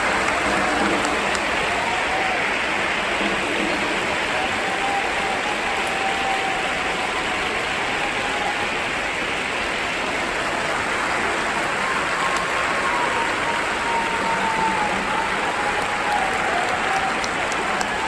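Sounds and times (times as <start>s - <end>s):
crowd cheering and clapping: 0.0s - 18.0s.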